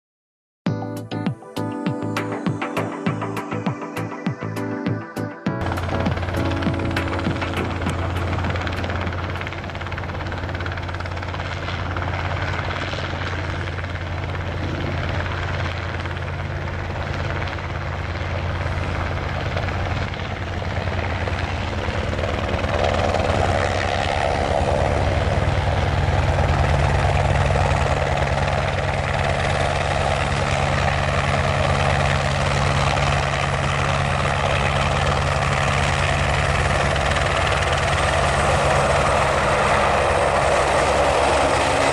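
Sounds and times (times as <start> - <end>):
helicopter landing: 1.2 - 41.9.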